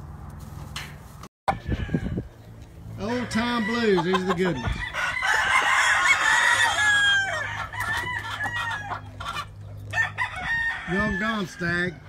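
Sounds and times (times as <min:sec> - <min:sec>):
roosters clucking: 0:00.2 - 0:12.0
roosters crowing: 0:01.5 - 0:12.0.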